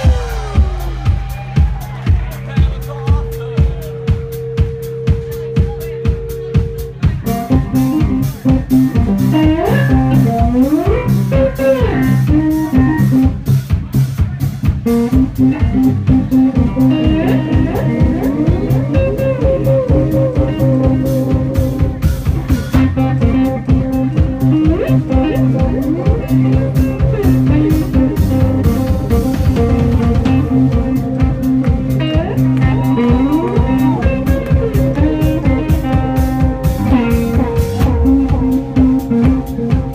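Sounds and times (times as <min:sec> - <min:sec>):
bass guitar: 0:00.0 - 0:39.9
drum kit: 0:00.0 - 0:39.9
electric guitar bending notes: 0:03.6 - 0:13.6, 0:14.8 - 0:39.9.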